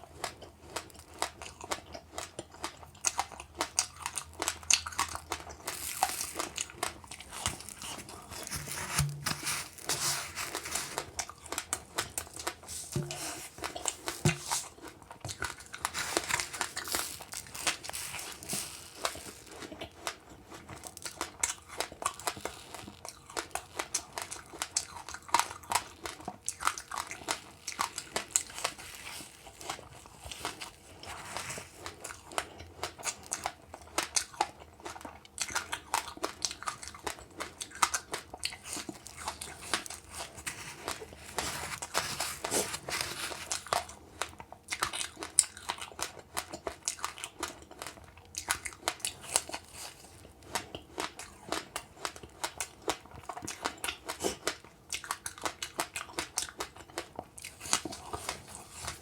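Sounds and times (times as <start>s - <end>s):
crunching and chewing seeds: 0.0s - 59.0s.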